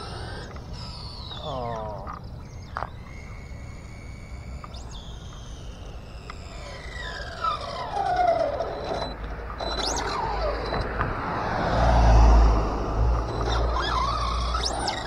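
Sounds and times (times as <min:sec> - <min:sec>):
toy car drivetrain whining: 0:00.0 - 0:12.3, 0:13.1 - 0:15.0
clutch slipping screech: 0:00.0 - 0:15.0.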